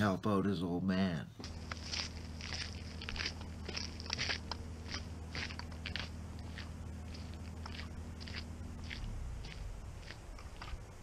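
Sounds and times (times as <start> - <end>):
low steady hum: 0.0 - 11.0
footsteps crunching on gravel: 1.4 - 11.0.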